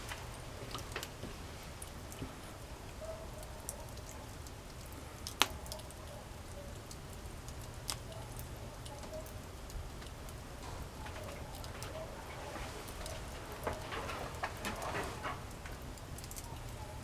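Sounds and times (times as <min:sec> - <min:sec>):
burning wood popping: 0:00.0 - 0:02.6, 0:04.0 - 0:05.9, 0:06.9 - 0:17.0
campfire crackling: 0:00.0 - 0:02.8, 0:04.4 - 0:06.1, 0:06.8 - 0:17.0.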